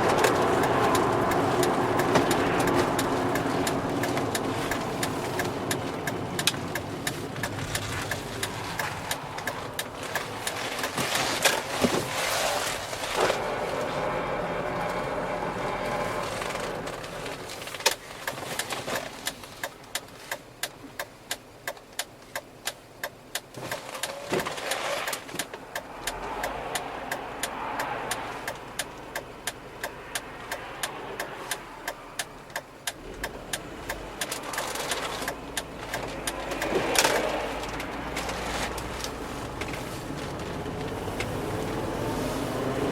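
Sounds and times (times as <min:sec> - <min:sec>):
regular ticking: 0:00.0 - 0:12.1, 0:12.7 - 0:42.9
car engine running: 0:00.0 - 0:42.9.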